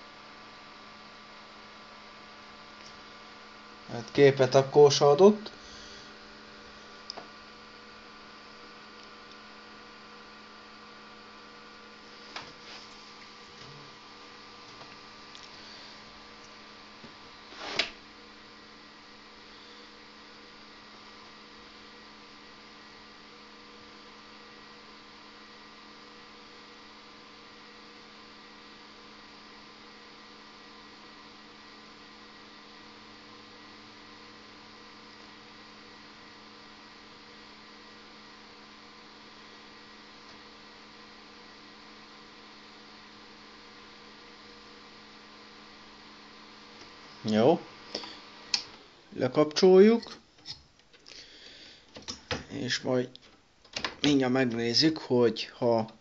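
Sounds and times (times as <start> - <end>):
computer fans humming: 0.0 - 56.0.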